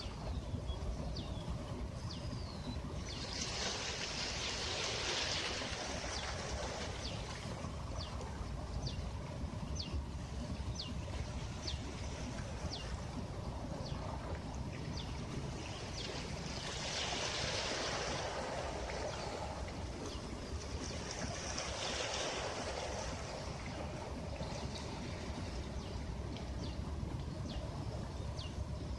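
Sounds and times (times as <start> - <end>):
sea waves washing on beach: 0.0 - 28.9.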